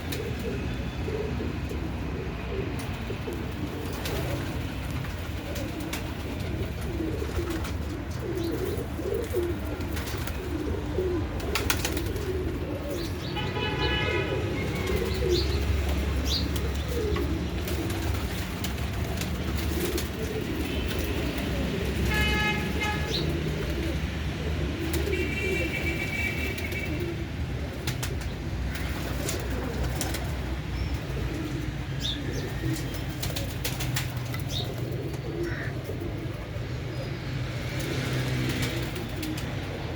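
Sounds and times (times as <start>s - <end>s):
higher pitched pigeon calls: 0.0s - 39.9s
pigeons cooing: 0.0s - 39.9s.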